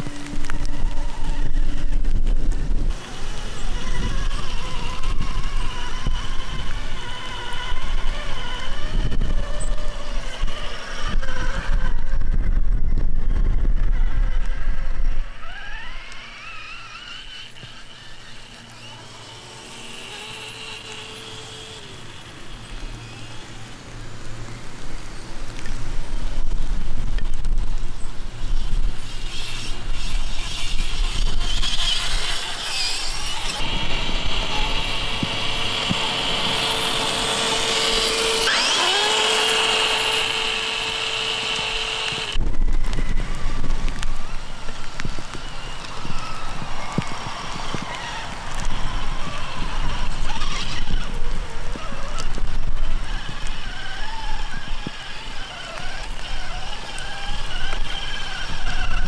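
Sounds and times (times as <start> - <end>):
rc truck motor whine: 0.0 - 59.0.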